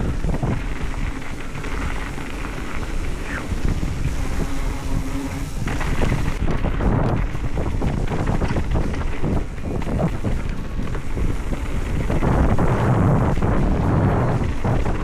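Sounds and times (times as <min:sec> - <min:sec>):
mountain bike rumbling on dirt trail: 0:00.0 - 0:15.0
wind buffeting microphone: 0:00.0 - 0:15.0.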